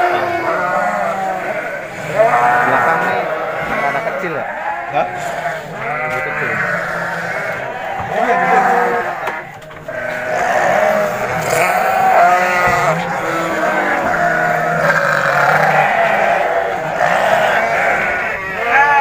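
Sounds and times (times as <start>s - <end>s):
sheep and goats bleating: 0.0s - 19.0s.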